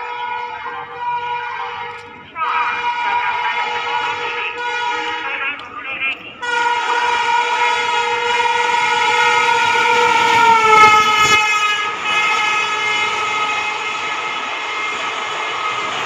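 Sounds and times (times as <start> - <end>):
locomotive air horn blast: 0.0 - 5.4, 6.4 - 16.0.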